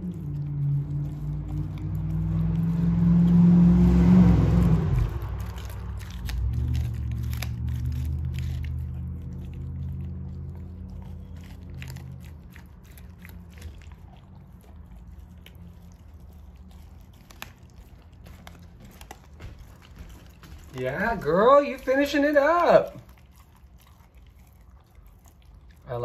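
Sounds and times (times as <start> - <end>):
low droning hum: 0.0 - 21.8
dog chewing raw meat: 0.0 - 26.0.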